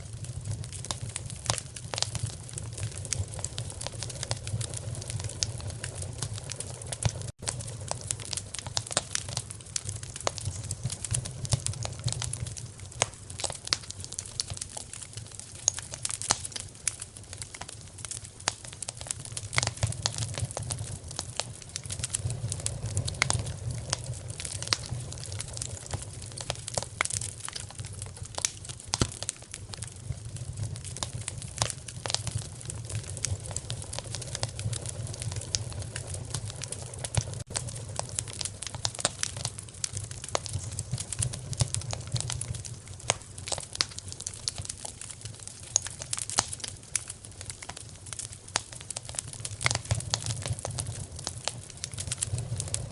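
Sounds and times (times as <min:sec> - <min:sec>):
sharp pops and snaps of fire: 0:00.0 - 0:52.9
wood fire crackling: 0:00.0 - 0:52.9.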